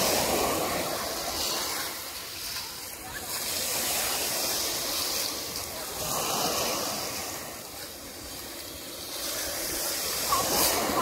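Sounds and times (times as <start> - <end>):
waves washing up pebble beach: 0.0 - 11.0.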